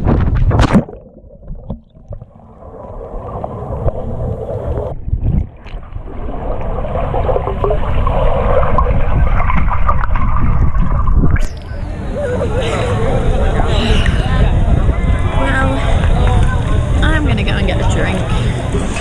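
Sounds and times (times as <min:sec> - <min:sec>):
muffled underwater bubbling: 0:00.0 - 0:19.0.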